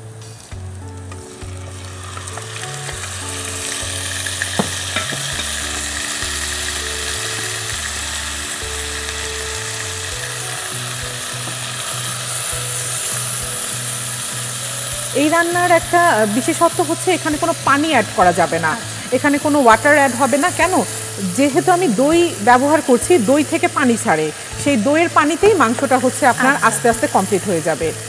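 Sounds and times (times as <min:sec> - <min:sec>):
low background music: 0:00.0 - 0:28.0
meat sizzling in hot oil: 0:00.0 - 0:28.0.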